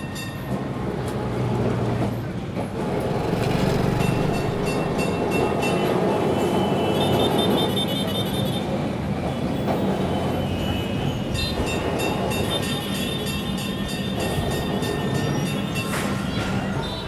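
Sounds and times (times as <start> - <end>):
tram running on rails: 0.0 - 17.0.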